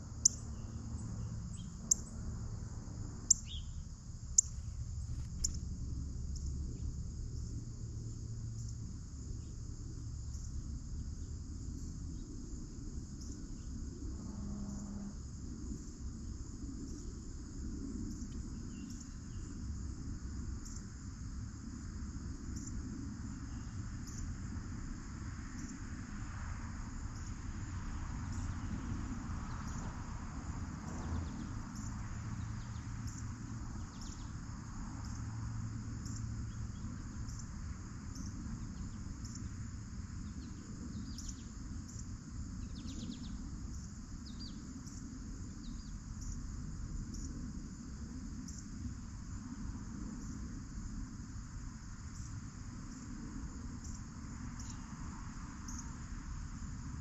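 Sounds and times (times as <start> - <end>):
crickets chirping: 0.0 - 57.0
low steady rumble: 0.0 - 57.0.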